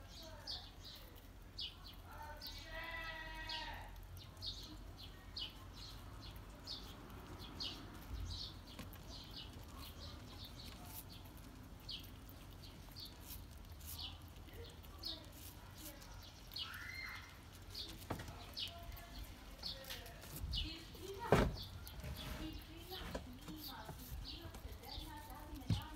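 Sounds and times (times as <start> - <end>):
squirrel nibbling crunching clicks: 0.0 - 25.9.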